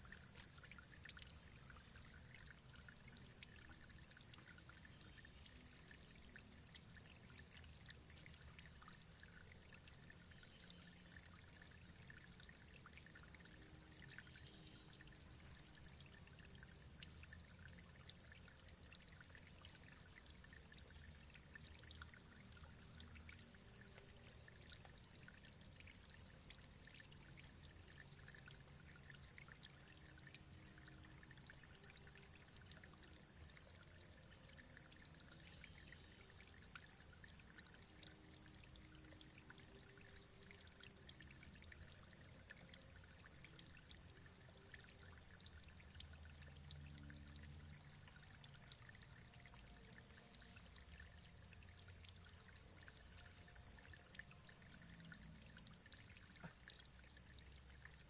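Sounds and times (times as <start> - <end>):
faint running water: 0.0 - 58.0.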